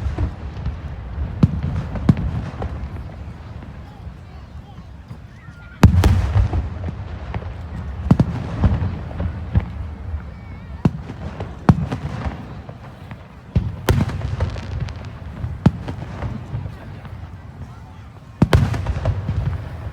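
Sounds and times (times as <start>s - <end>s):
fireworks bursting with booms: 0.0s - 19.9s.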